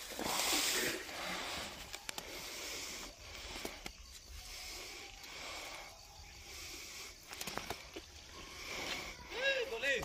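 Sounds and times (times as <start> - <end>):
grass and leaves rustling: 0.0 - 10.0.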